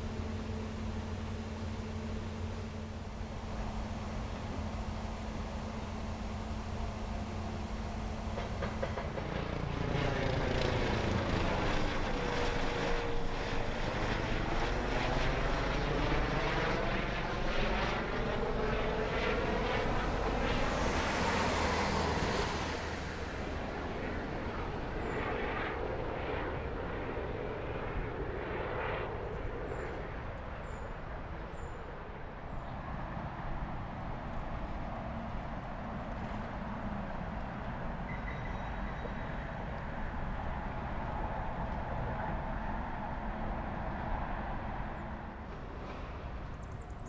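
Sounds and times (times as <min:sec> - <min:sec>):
helicopter flying overhead: 0:00.0 - 0:47.0.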